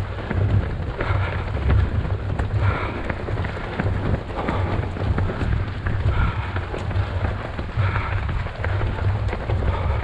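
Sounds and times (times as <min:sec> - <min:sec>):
running footsteps: 0:00.0 - 0:10.0
wind buffeting microphone: 0:00.0 - 0:10.0.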